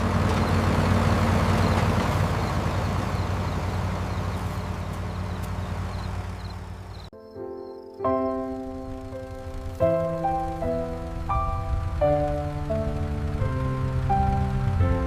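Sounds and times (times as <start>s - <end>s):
large engine running: 0.0s - 7.1s, 8.3s - 15.0s.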